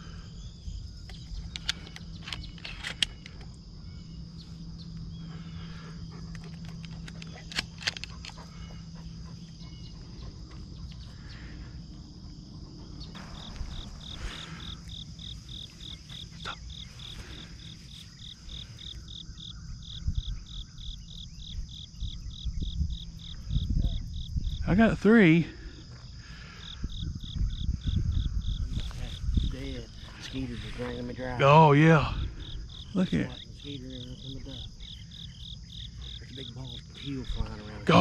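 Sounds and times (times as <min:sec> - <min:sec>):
insect chirping in pulses: 0:00.0 - 0:38.0
insect trilling: 0:00.0 - 0:38.0.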